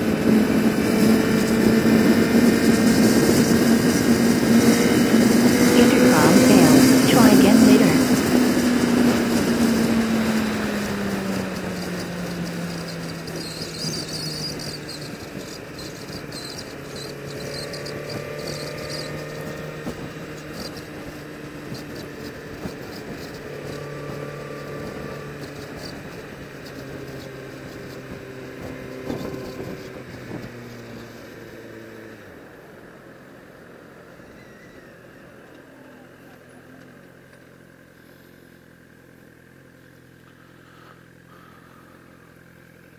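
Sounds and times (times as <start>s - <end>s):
sport bike engine: 0.0s - 42.9s.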